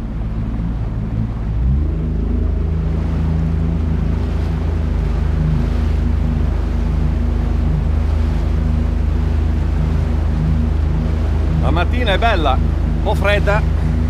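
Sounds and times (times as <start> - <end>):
small boat motor running: 0.0 - 14.0.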